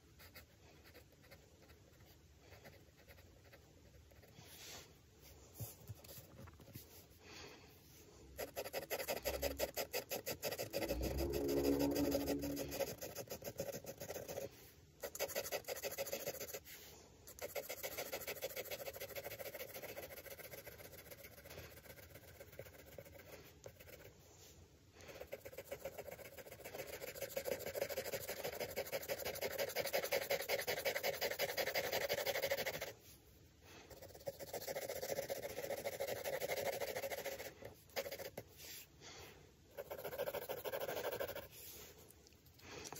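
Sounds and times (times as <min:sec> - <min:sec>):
pencil scratching on paper: 0:00.0 - 0:04.9, 0:08.3 - 0:24.1, 0:25.0 - 0:33.0, 0:33.9 - 0:38.9, 0:39.7 - 0:41.9.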